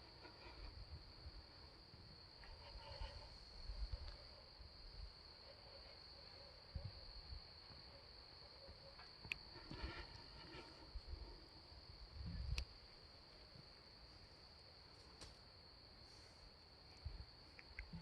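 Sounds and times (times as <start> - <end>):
night insects chorus: 0.0 - 18.0.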